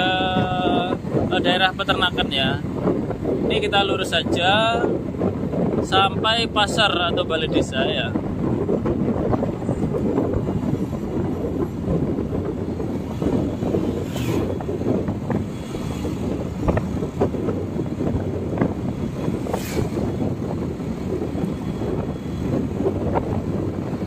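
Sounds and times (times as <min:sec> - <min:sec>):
road and engine noise: 0:00.0 - 0:24.0
wind buffeting microphone: 0:00.0 - 0:24.0.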